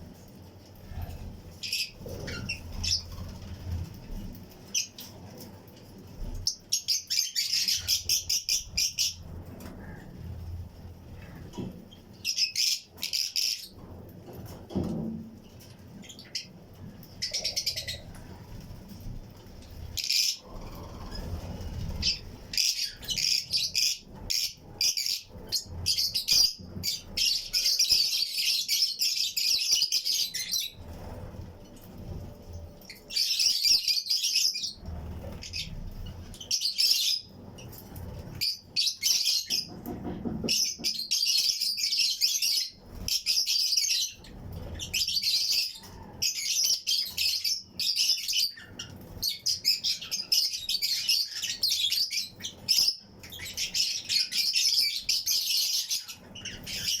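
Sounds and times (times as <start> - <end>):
flock of lovebirds chirping: 0.8 - 5.5, 6.1 - 10.6, 11.2 - 13.8, 16.0 - 57.0.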